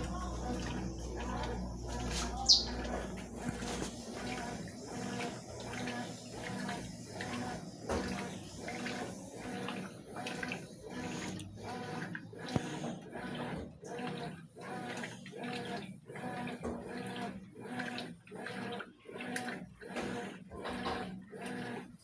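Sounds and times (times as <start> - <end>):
washing machine water sloshing: 0.0 - 22.0.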